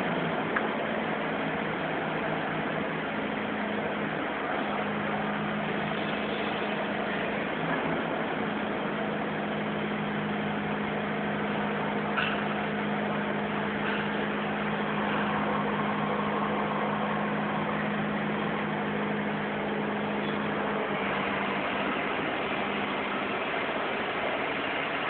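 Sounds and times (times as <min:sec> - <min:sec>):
forklift running: 0:00.0 - 0:25.0.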